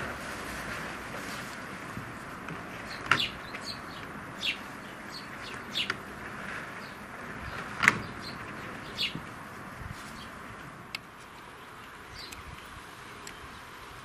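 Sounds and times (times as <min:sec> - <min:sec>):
sparrows chirping: 0:02.7 - 0:14.0.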